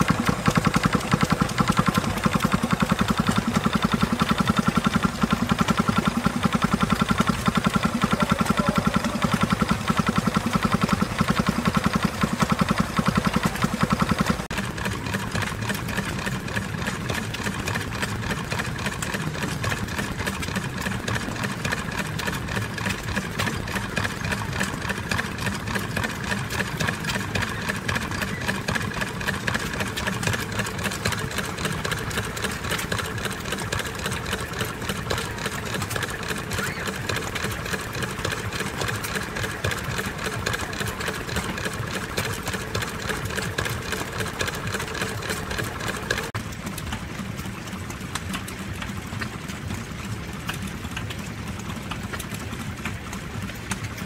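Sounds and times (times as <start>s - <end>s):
quieter engine running: 0.0s - 54.0s
stationary engine clattering: 0.0s - 54.0s.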